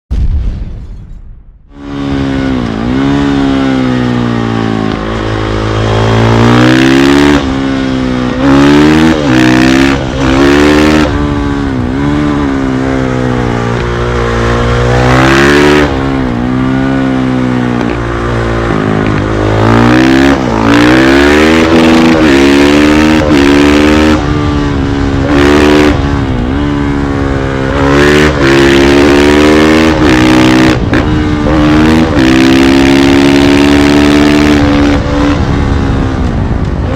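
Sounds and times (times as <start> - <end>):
motorcycle engine revving: 1.7 - 36.9.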